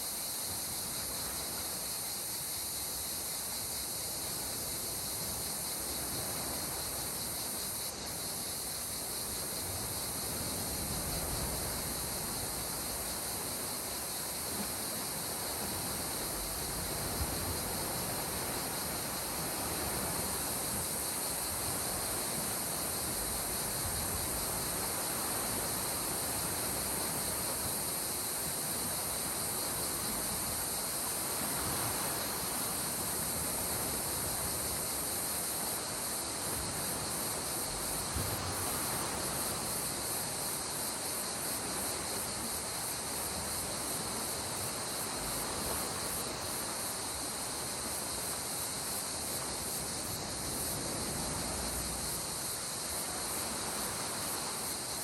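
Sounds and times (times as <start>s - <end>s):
insects chirring: 0.0s - 55.0s
sea water washing on shore: 4.4s - 55.0s.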